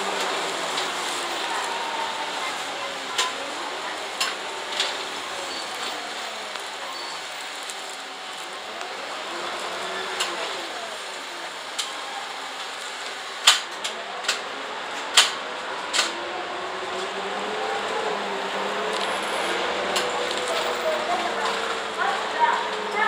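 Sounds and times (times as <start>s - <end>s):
bus engine with faint whine: 0.0s - 23.0s.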